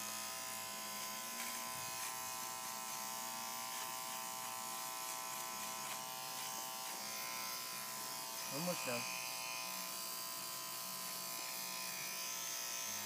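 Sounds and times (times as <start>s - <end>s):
electric hair clipper buzzing: 0.0s - 13.0s.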